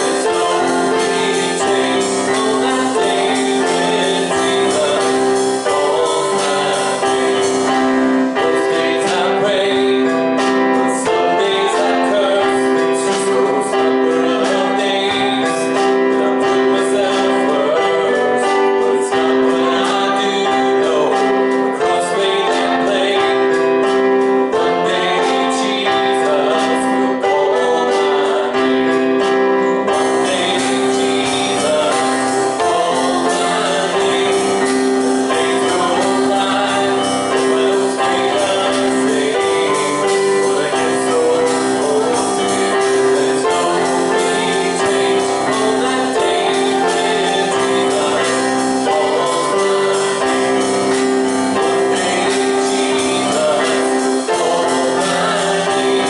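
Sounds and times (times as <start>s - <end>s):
gospel singers: 0.0s - 56.0s
piano or keyboard: 0.0s - 56.0s
rhythmic tambourine tapping: 0.0s - 56.0s.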